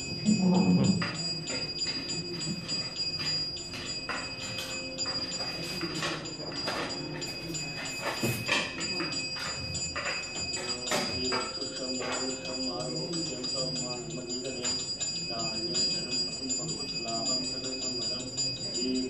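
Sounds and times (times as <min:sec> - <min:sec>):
hand bell ringing and clanging: 0:00.0 - 0:19.0.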